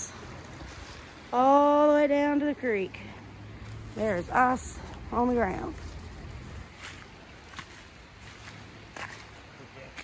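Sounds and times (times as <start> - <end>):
footsteps in dry leaves: 0.0 - 1.8, 3.4 - 10.0.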